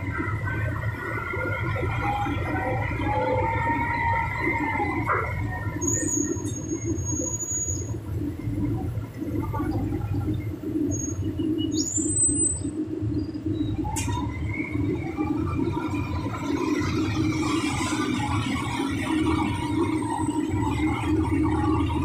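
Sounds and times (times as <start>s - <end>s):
excavator engine rumbling: 0.0s - 22.0s.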